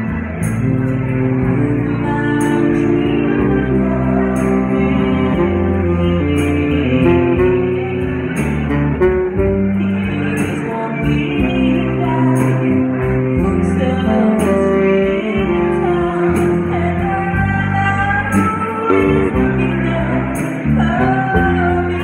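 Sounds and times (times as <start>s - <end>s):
guitar: 0.0s - 22.0s
person singing: 0.0s - 22.0s
saxophone holding long notes: 0.0s - 22.0s.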